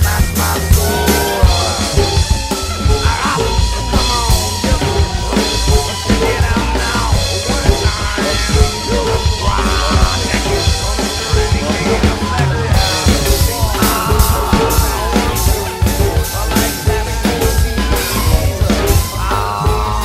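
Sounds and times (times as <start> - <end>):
alternative rock backing track: 0.0 - 20.0
electronic drum kit groove: 0.0 - 20.0.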